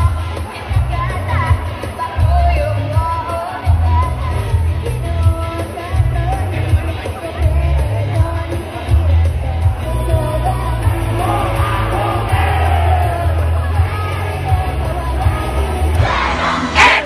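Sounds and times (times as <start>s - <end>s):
pop music with singing: 0.0s - 17.0s.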